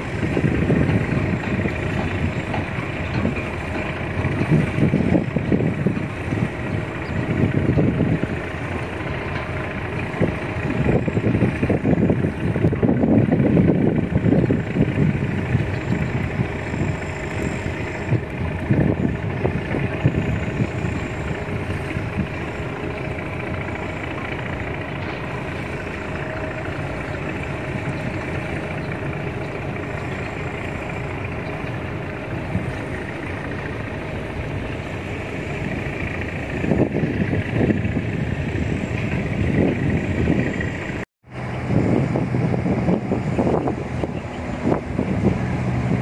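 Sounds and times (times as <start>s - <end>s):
engine drone: 0.0s - 46.0s
wind buffeting microphone: 0.0s - 46.0s.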